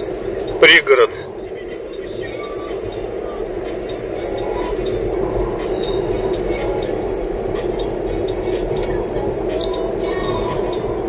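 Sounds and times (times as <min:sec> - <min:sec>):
faint ticks and rattles: 0:00.0 - 0:11.0
road and engine noise in car cabin: 0:00.0 - 0:11.0.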